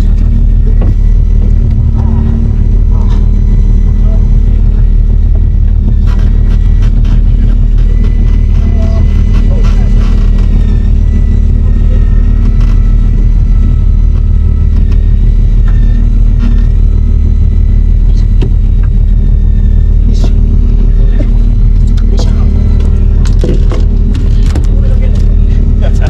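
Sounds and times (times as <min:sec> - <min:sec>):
boat engine running: 0:00.0 - 0:26.0
faint high whine: 0:00.0 - 0:26.0.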